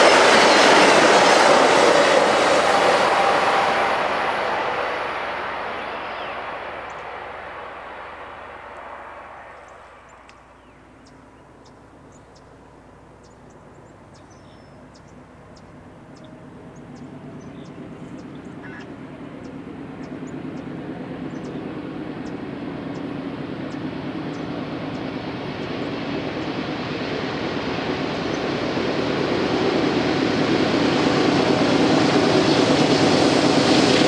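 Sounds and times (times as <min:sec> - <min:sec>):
diesel locomotive engines droning: 0:00.0 - 0:34.0.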